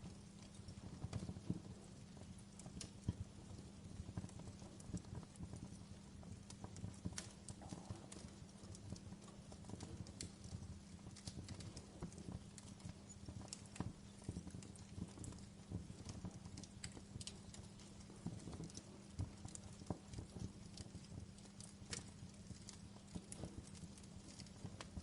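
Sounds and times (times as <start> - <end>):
low rumble of flames: 0.0 - 25.0
wood fire crackling: 0.0 - 25.0.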